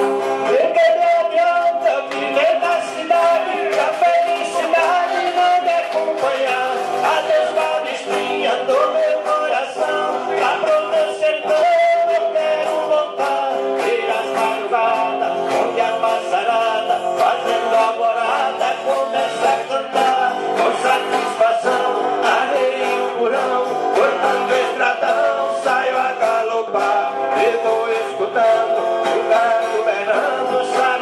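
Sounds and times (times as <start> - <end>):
man singing country song: 0.0 - 31.0.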